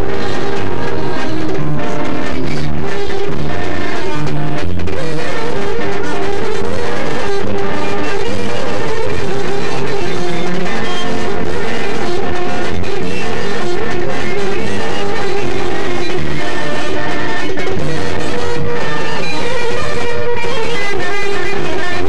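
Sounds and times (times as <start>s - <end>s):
loud instrumental music: 0.0s - 22.0s.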